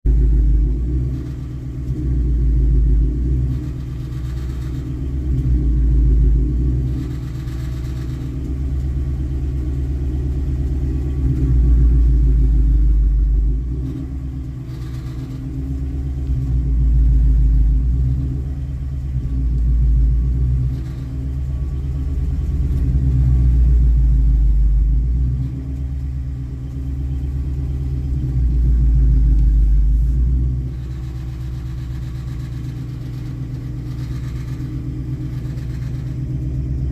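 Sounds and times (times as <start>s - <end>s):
car engine rumbling: 0.0s - 36.9s
exhaust rattling: 0.0s - 36.9s.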